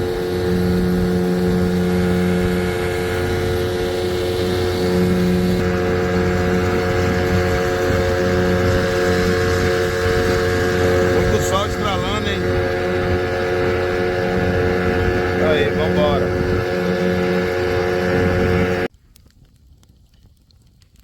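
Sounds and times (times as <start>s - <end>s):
two-stroke outboard motor running: 0.0s - 18.9s.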